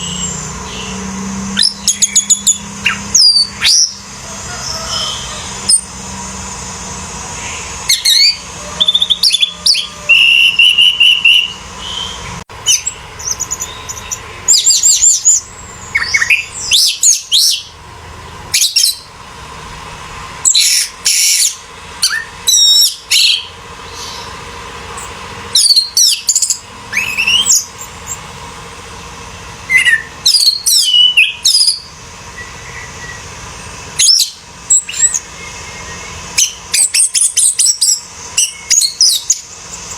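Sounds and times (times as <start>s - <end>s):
thrush singing whistled phrases: 0.0s - 6.0s, 7.4s - 17.8s, 18.5s - 19.1s, 20.4s - 24.4s, 25.5s - 28.3s, 29.7s - 39.6s.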